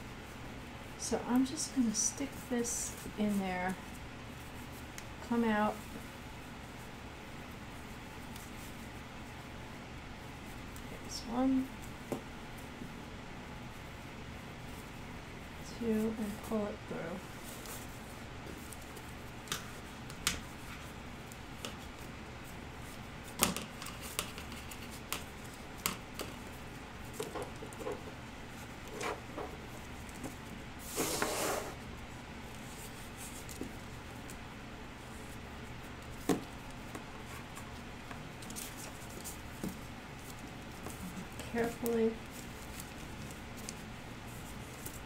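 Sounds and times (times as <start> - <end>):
fabric rustle: 0.2 - 45.0.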